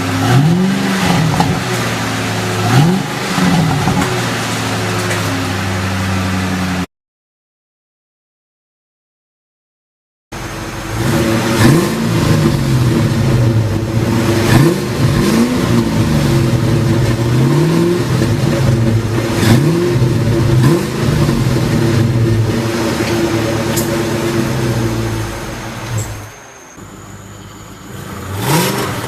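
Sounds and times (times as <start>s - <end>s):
car engine idling and revving: 0.0s - 6.9s, 10.4s - 29.0s.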